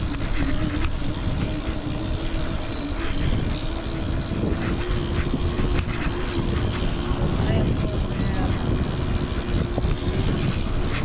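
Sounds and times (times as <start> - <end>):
droning hum from bike: 0.0 - 11.0
wind rushing over microphone: 0.0 - 11.0.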